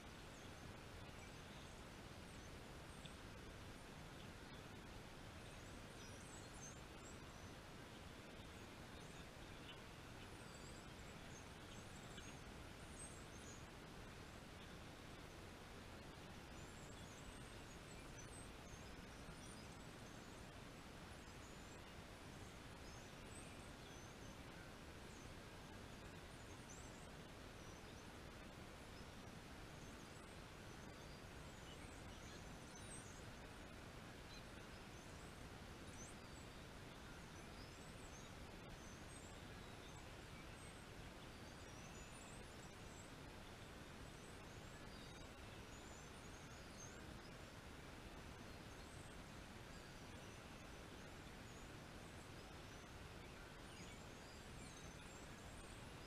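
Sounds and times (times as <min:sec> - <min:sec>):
faint background hiss: 0:00.0 - 0:56.0.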